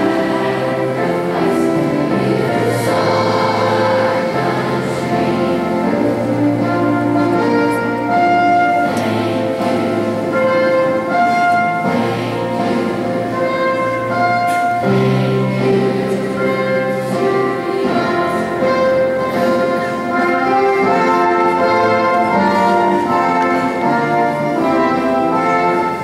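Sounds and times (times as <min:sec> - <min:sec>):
orchestral music with brass: 0:00.0 - 0:26.0.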